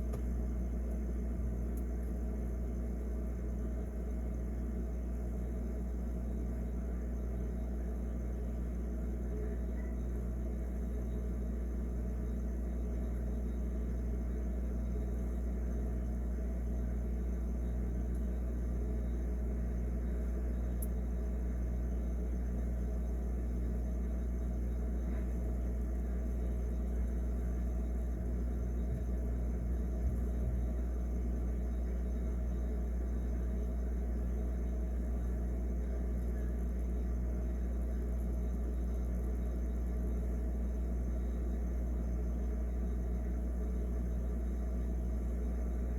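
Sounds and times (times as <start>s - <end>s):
refrigerator humming: 0.0s - 45.9s.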